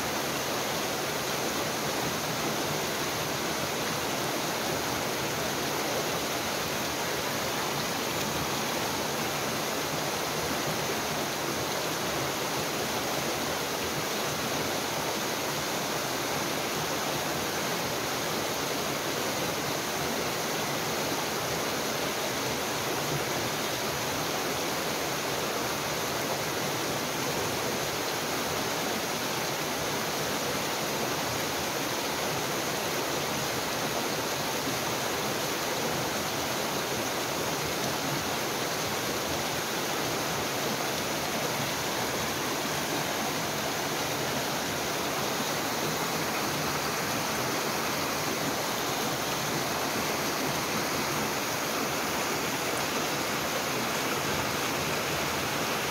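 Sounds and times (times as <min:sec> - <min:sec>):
stream rushing over boulders: 0:00.0 - 0:55.9.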